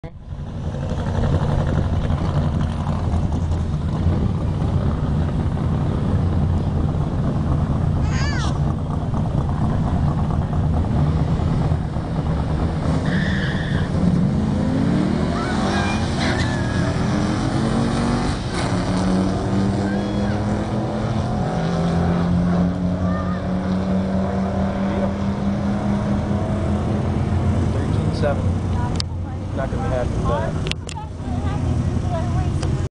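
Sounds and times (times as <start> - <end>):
car engine rumbling: 0.0 - 32.9
cars accelerating hard: 0.3 - 32.9.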